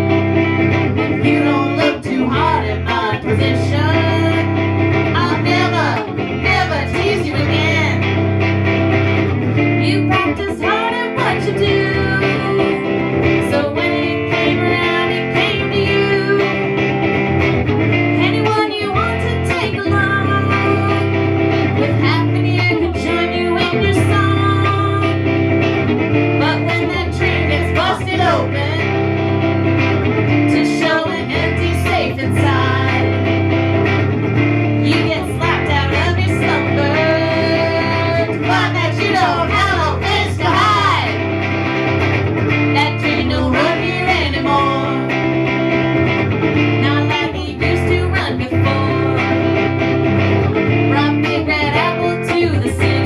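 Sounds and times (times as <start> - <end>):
guitar chords: 0.0 - 53.0
sliding lead melody: 0.0 - 53.0.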